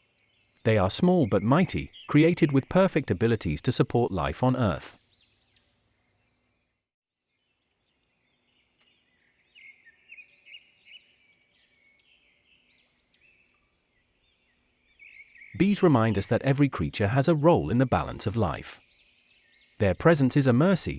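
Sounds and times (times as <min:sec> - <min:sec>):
faint birdsong chirps: 0:00.0 - 0:20.9.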